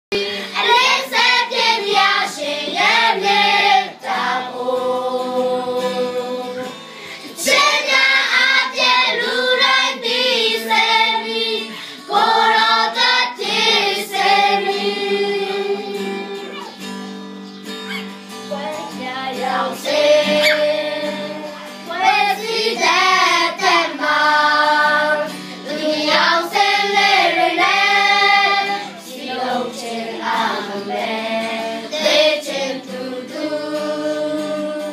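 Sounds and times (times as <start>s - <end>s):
children singing: 0.1s - 16.9s, 18.9s - 34.9s.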